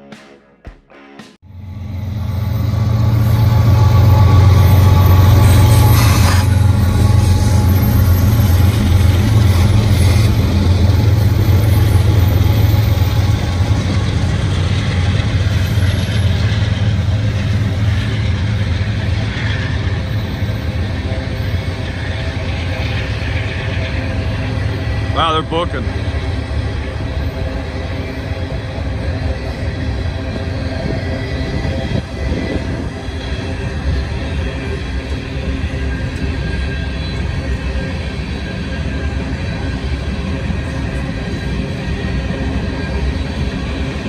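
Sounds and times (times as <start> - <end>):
diesel locomotive engine drone: 1.4 - 44.0
rolling rail noise: 1.4 - 44.0.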